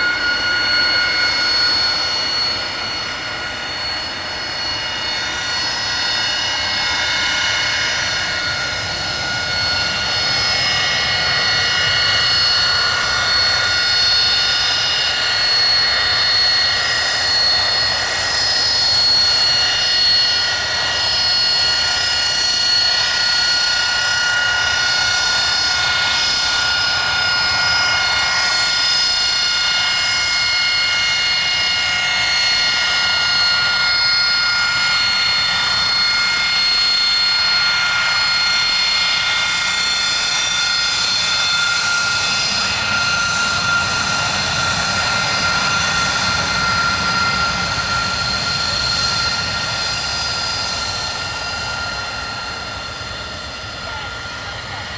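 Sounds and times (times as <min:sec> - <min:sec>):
jet engine whine: 0:00.0 - 0:54.9.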